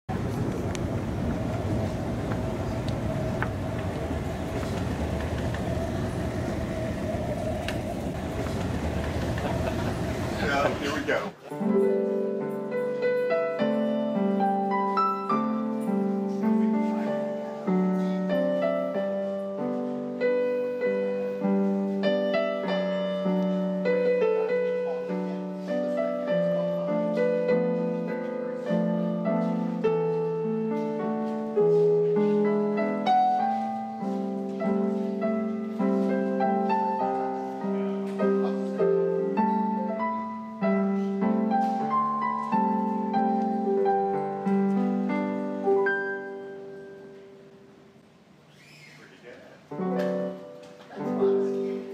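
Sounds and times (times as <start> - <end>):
solo piano music: 0.1 - 48.0, 49.7 - 51.9.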